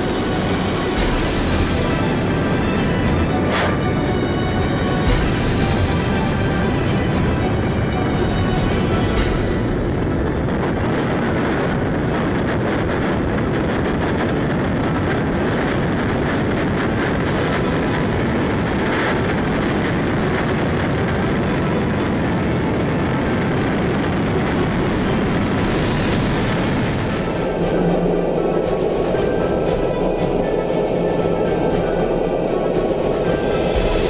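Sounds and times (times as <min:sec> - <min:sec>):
jet engine rushing: 0:00.0 - 0:34.0.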